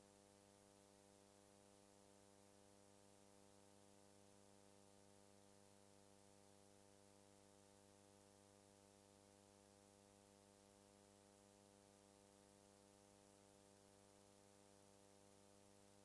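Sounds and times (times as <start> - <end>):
faint electrical hum with hiss: 0.0 - 16.0.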